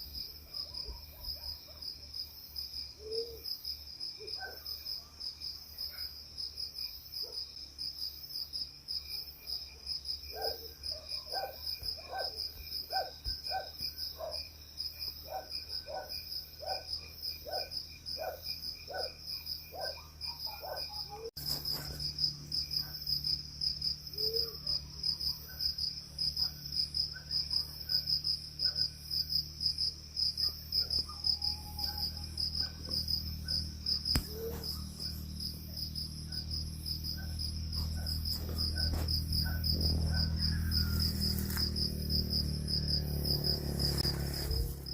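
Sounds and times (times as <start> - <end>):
night insects chirping: 0.0 - 44.9.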